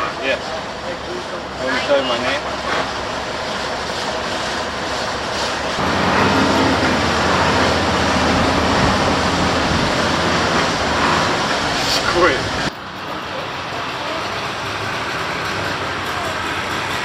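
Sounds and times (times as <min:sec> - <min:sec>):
large engine drone: 0:00.0 - 0:17.0.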